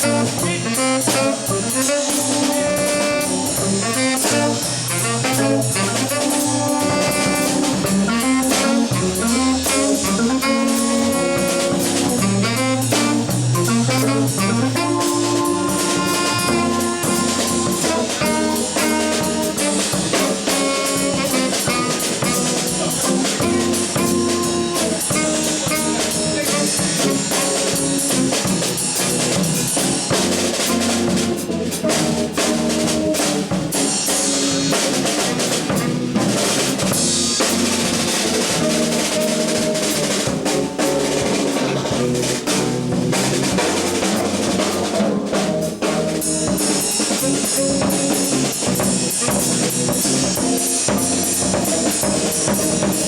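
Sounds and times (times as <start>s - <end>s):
drum kit snare and bass drum: 0.0s - 53.0s
jazz trio playing: 0.0s - 53.0s.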